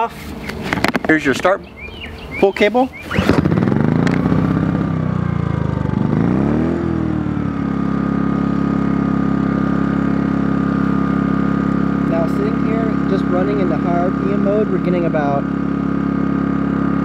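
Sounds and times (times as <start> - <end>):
generator engine starting and running: 0.0 - 17.0.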